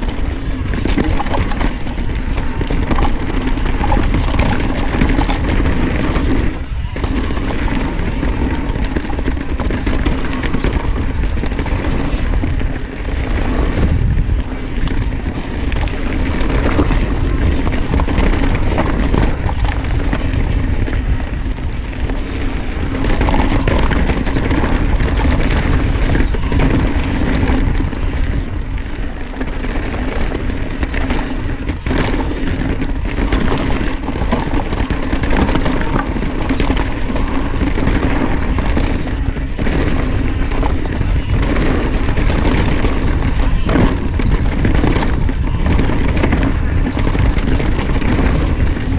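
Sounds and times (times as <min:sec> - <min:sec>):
bicycle tyres rolling on dirt: 0:00.0 - 0:48.9
bike knocks and rattles: 0:00.0 - 0:48.9
wind buffeting microphone: 0:00.0 - 0:48.9.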